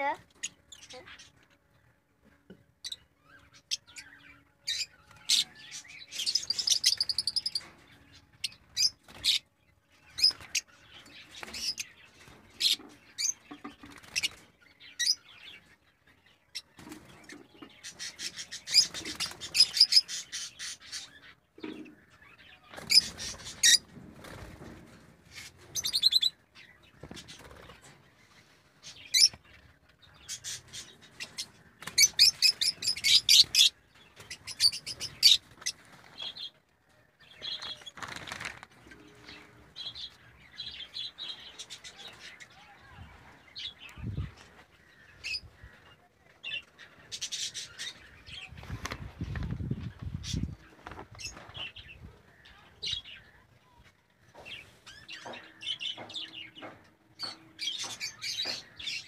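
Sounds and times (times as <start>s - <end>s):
lovebirds chirping: 0.0s - 59.0s.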